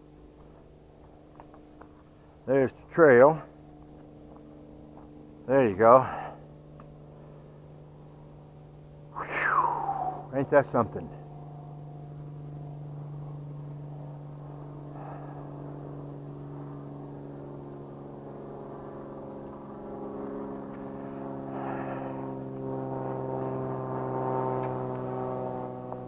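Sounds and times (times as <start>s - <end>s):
engine-like drone: 0.0s - 26.0s.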